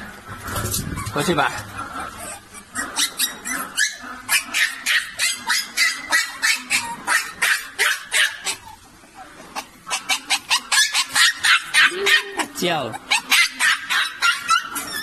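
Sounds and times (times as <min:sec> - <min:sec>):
puppies yipping and whining: 0:00.0 - 0:15.0.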